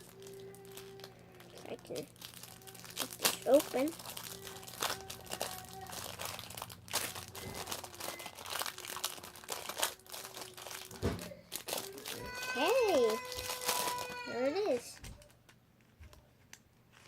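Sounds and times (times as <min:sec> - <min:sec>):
packaging crinkling: 0:00.0 - 0:17.0.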